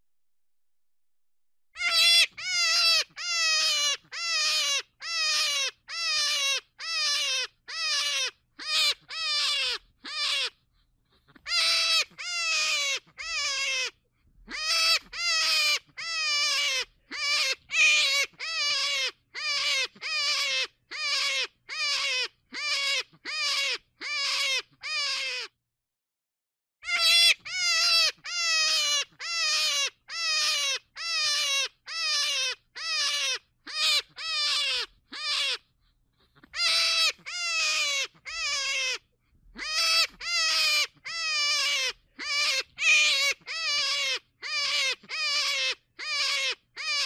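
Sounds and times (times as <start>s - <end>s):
animal crying repeatedly: 1.8s - 25.6s, 26.8s - 47.0s.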